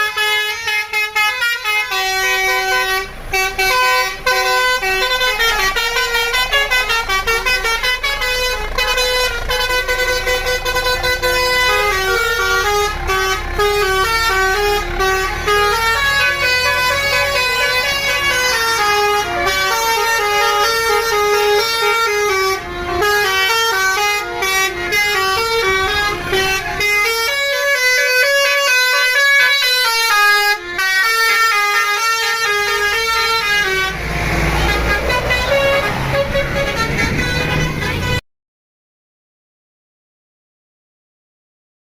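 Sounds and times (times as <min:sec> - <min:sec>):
multi-tone bus horn melody: 0:00.0 - 0:38.2.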